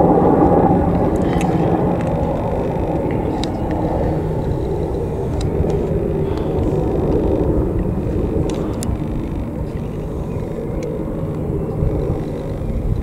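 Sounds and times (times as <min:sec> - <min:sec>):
helicopter rotor rumble: 0:00.0 - 0:13.0.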